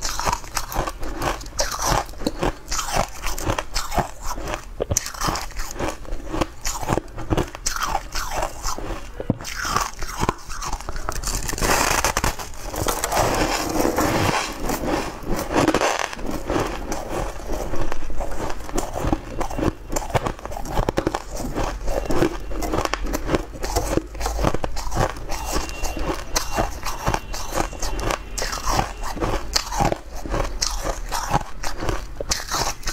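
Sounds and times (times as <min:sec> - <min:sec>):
chewing crunchy ice: 0:00.0 - 0:32.9.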